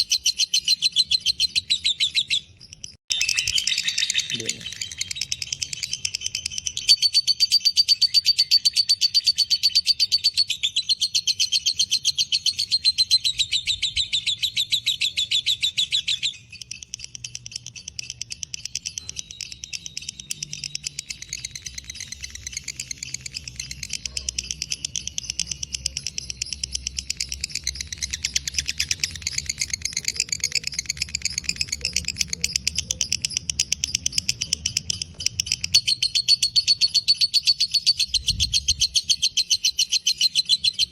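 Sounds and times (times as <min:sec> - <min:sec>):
lovebird rapid shrill chatter: 0:00.0 - 0:40.9.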